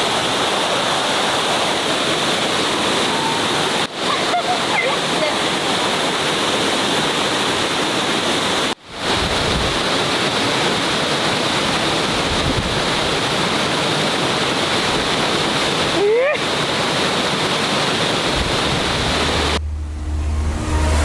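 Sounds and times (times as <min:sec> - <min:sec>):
waterfall rushing water: 0:00.0 - 0:19.6.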